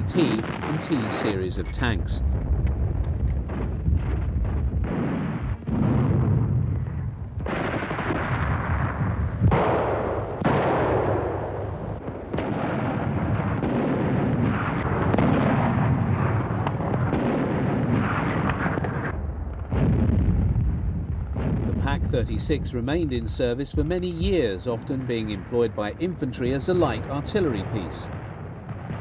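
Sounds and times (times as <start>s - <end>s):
rumble of battle noise: 0.0s - 29.0s.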